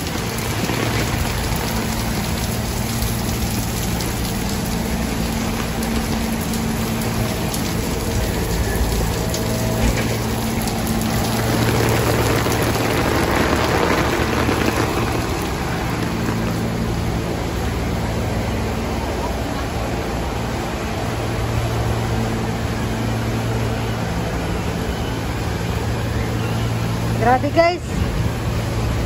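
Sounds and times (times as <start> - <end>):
low hum: 0.0 - 27.3
heavy rain pouring: 0.0 - 29.0.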